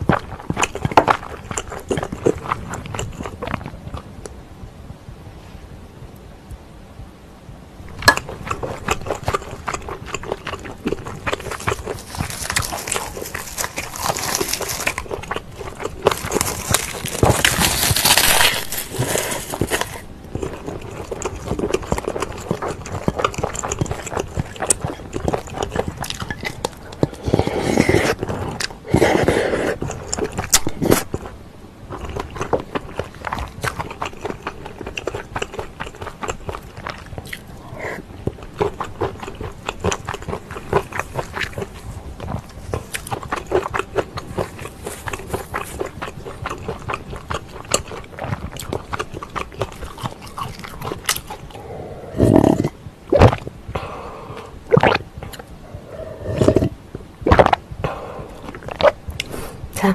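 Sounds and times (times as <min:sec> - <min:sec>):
wet chewing: 0:00.0 - 0:04.4, 0:08.0 - 0:59.9.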